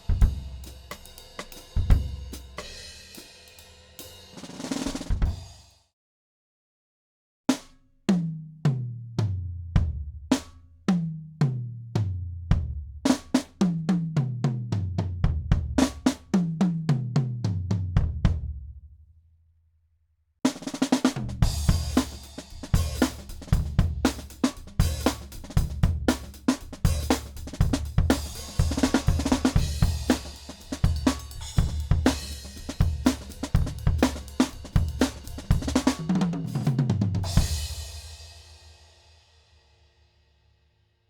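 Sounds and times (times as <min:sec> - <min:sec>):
drum kit groove: 0:00.0 - 0:05.6, 0:07.5 - 0:18.5, 0:20.5 - 0:38.8.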